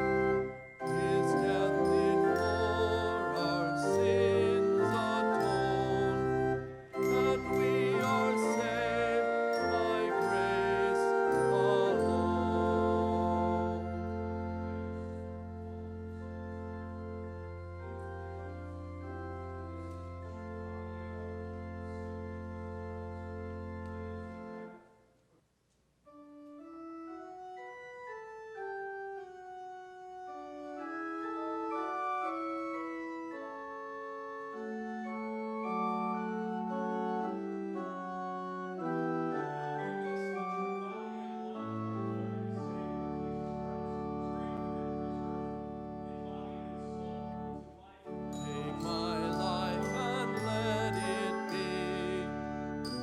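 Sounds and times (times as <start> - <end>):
church organ playing: 0.0 - 25.0, 26.1 - 53.0.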